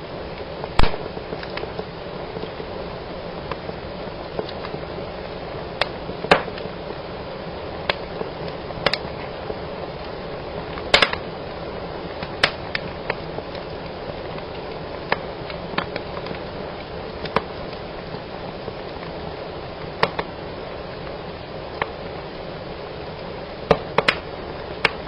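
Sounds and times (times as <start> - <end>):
fire crackling and hissing: 0.0 - 25.0
sharp snaps of burning wood: 0.2 - 2.8, 3.4 - 25.0.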